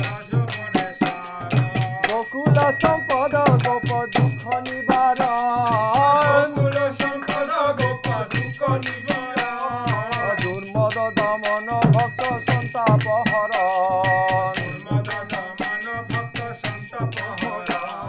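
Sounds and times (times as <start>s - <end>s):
drum beat: 0.0s - 18.0s
man singing: 0.0s - 18.0s
small hand cymbals ringing: 0.0s - 18.0s.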